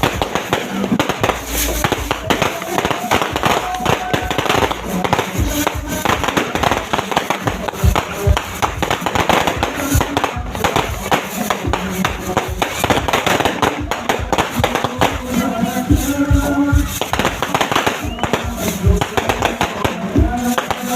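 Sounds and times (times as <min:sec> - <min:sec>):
fireworks and firecrackers popping: 0:00.0 - 0:20.9.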